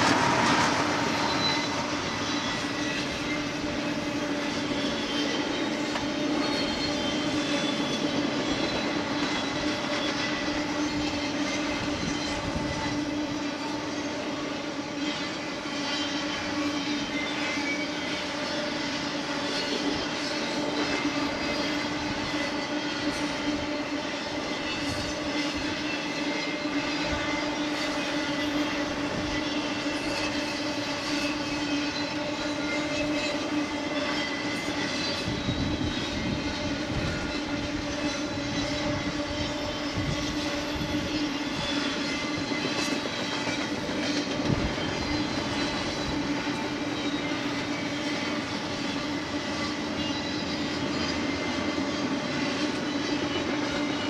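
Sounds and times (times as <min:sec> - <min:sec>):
steel wheels rumbling on rail: 0:00.0 - 0:54.0.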